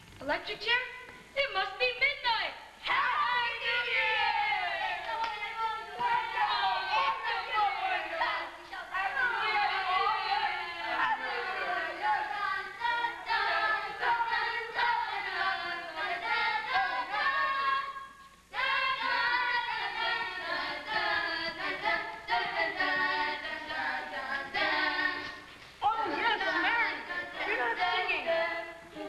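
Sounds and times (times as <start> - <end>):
voices singing together: 2.8 - 29.0.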